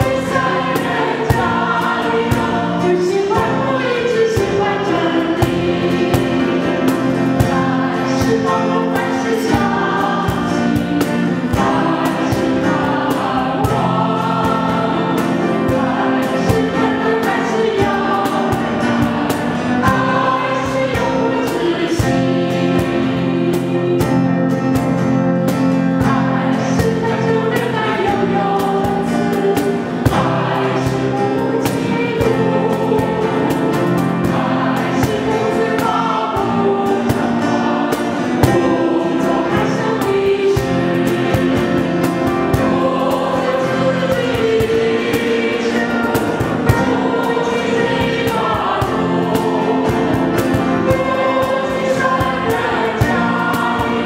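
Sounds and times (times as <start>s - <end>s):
acoustic guitar: 0.0s - 54.0s
choir singing a hymn: 0.0s - 54.0s
piano: 0.0s - 54.0s.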